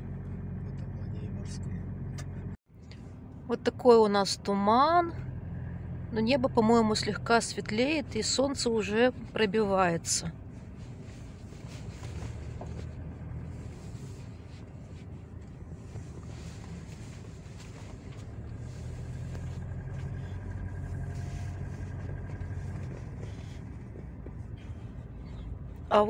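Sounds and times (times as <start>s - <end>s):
car engine and road hum: 0.0s - 26.0s.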